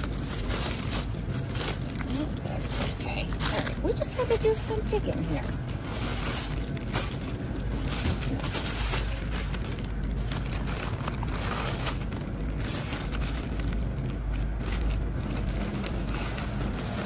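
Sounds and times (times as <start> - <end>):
plastic mesh bags rustling: 0.0 - 17.0
steady low rumble: 0.0 - 17.0.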